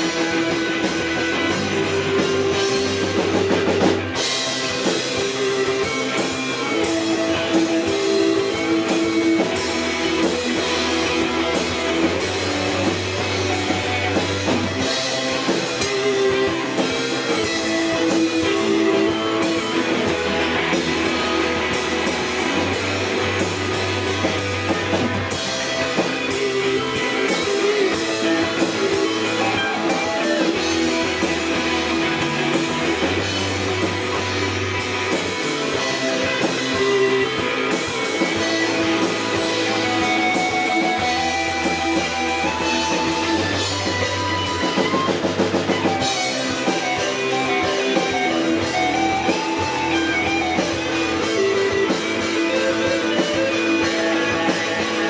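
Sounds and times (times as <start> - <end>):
rock band playing instrumental: 0.0 - 55.0.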